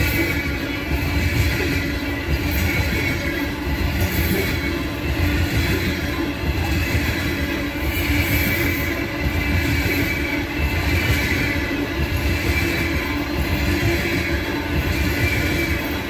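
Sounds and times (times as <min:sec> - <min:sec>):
high wheel squeal: 0:00.0 - 0:16.0
train wheels rumbling on rails: 0:00.0 - 0:16.0.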